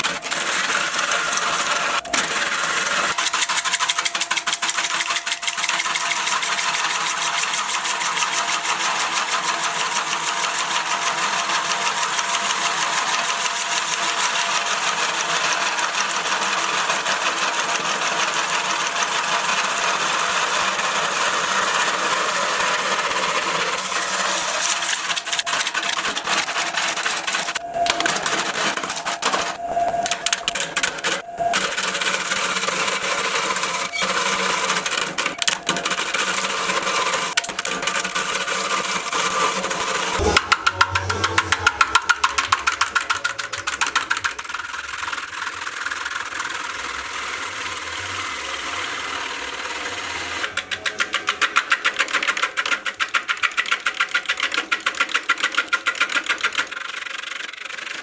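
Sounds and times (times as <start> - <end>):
wood lathe tool chatter: 0.0 - 58.0.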